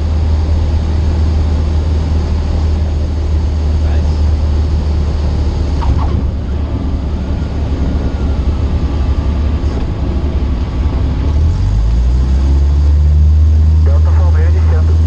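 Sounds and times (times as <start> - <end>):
aircraft engine droning: 0.0 - 15.0.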